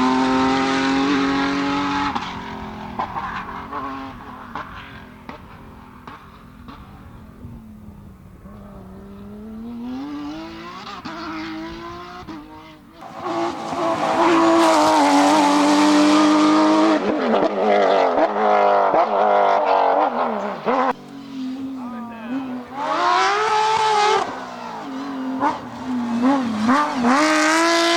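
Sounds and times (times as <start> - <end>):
rally car engine revving past: 0.0 - 27.9.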